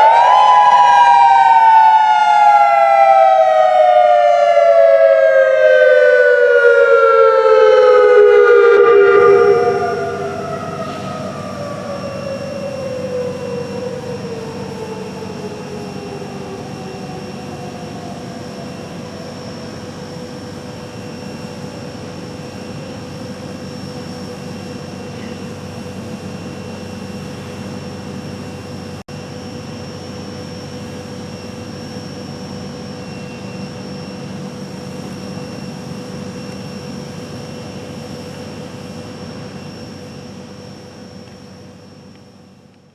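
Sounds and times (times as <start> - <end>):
warning siren winding down: 0.0 - 29.0, 30.0 - 42.8.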